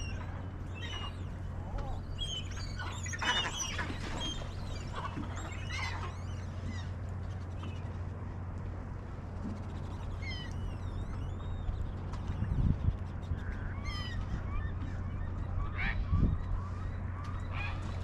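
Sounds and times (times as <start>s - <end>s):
birds calling: 0.0s - 8.4s, 9.4s - 18.0s
steady low hum: 0.0s - 18.0s.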